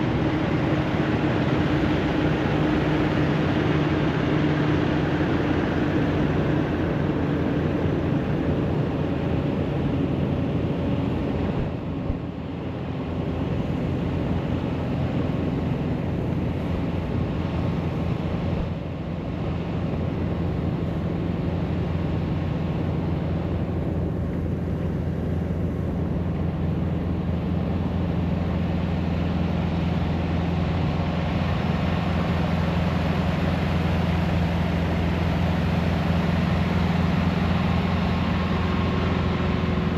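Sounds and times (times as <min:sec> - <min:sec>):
low engine hum: 0:00.0 - 0:39.9
road and wind noise: 0:00.0 - 0:39.9.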